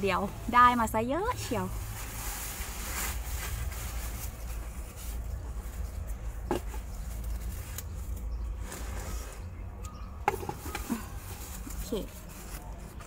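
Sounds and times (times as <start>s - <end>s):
packaging rubbing and scraping: 1.3s - 9.8s, 10.4s - 13.0s.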